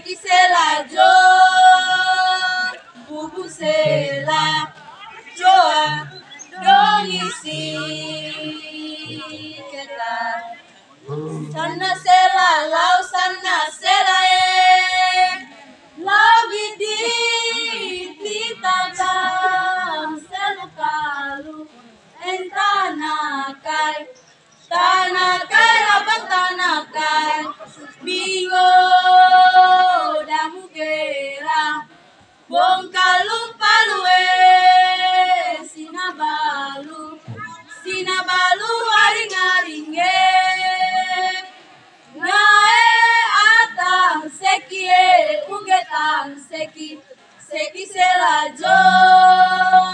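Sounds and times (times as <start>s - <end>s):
women singing without instruments: 0.0s - 4.8s, 5.4s - 10.5s, 11.3s - 24.1s, 24.7s - 31.8s, 32.5s - 41.5s, 42.2s - 49.9s.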